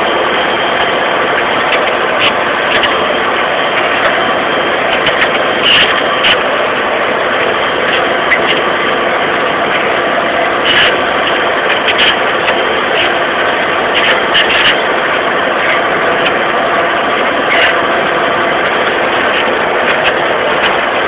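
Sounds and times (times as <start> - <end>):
tractor engine running under load: 0.0 - 21.0.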